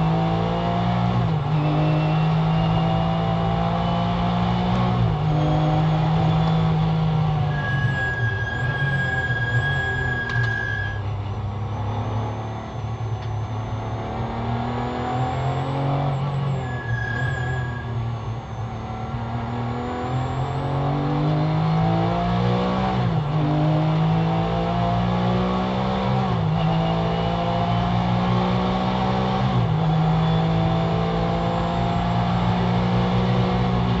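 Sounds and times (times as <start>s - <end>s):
race car engine accelerating: 0.0s - 10.8s, 11.6s - 34.0s.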